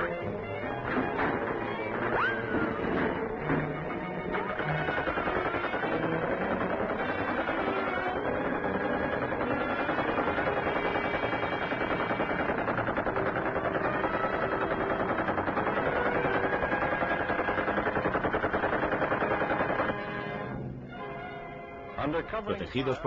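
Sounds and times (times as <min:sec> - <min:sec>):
machine gun firing: 0:00.0 - 0:20.6.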